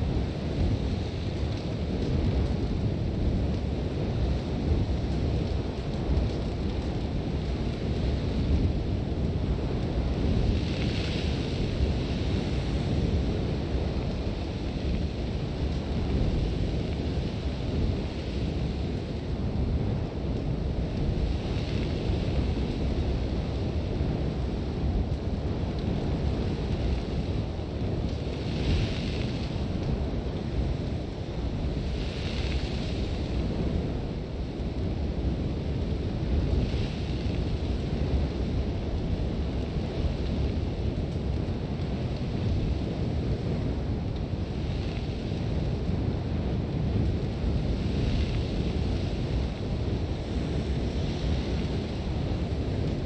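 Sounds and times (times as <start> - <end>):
wind buffeting a tent: 0.0 - 53.0.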